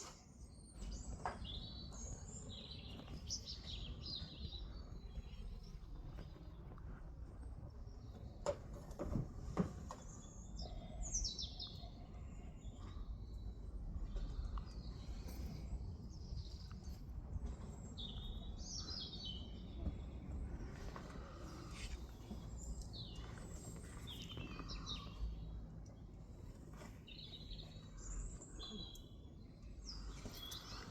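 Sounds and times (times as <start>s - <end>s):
small songbirds chirping: 0.0s - 30.9s
low outdoor rumble: 0.2s - 30.9s.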